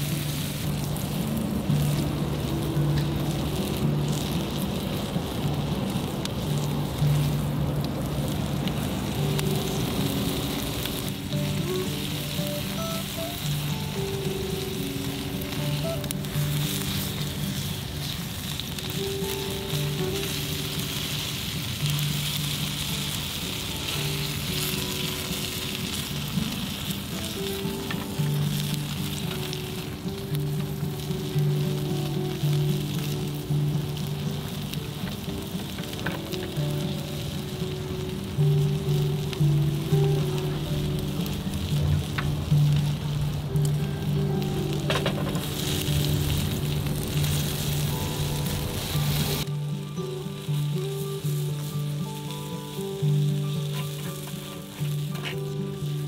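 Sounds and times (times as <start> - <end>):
slow background music: 0.0 - 56.0
steak sizzling on griddle: 0.0 - 56.0.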